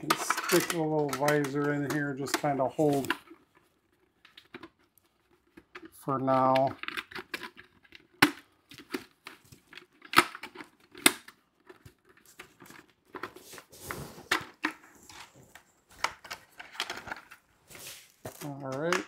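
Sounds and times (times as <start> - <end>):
plastic helmet clicks and knocks: 0.0 - 13.4, 14.3 - 17.5, 18.3 - 19.0
helmet crinkling and rubbing: 0.0 - 19.0.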